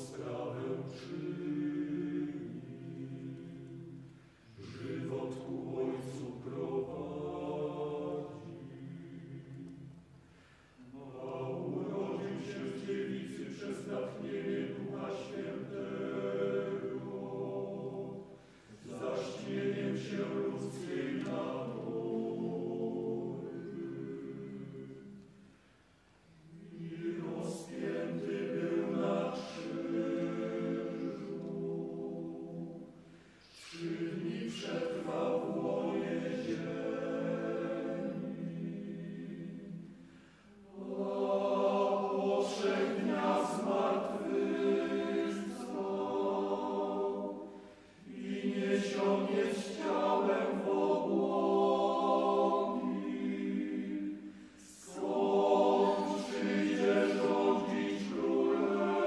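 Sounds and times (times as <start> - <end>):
mixed choir singing: 0.0 - 10.2, 10.8 - 25.5, 26.4 - 59.0.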